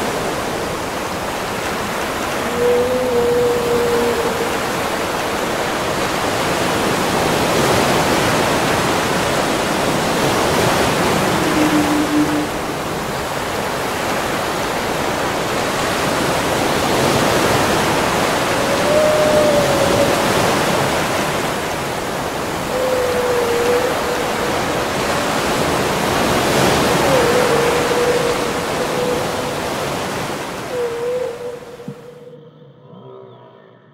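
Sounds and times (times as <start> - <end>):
whale moans: 2.2 - 9.2, 9.8 - 13.4, 16.8 - 33.9.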